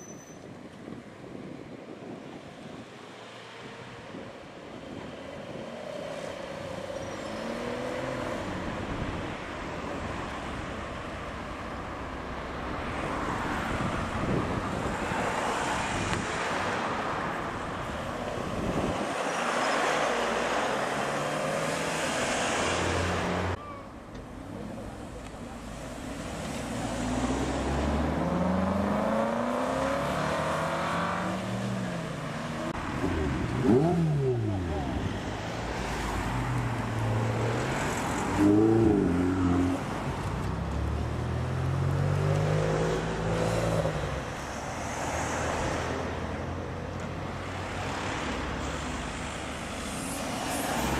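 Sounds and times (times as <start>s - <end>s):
car engines revving: 4.9s - 23.6s, 24.2s - 50.9s.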